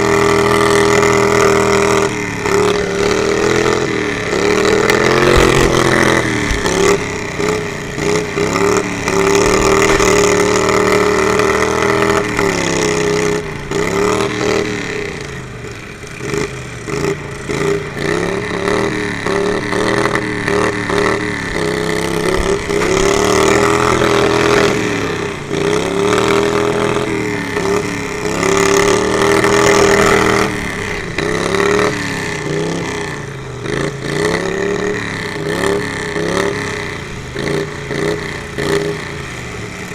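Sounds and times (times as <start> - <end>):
lawnmower engines revving: 0.0 - 39.9.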